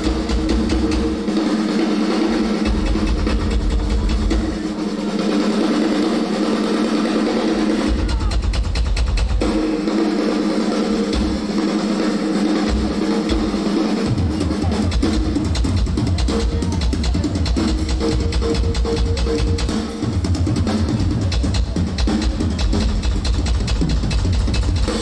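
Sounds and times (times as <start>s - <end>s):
hard rock drumming: 0.0s - 25.0s.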